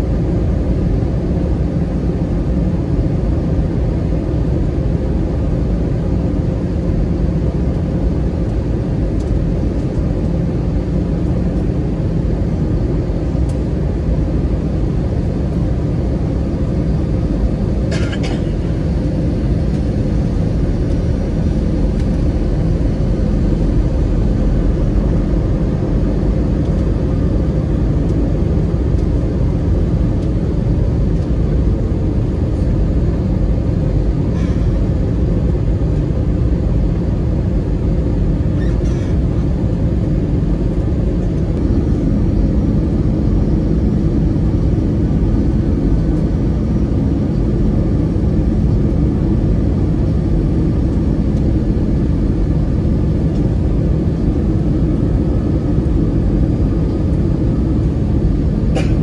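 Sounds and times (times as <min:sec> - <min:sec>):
jet engines roaring: 0:10.6 - 0:59.0.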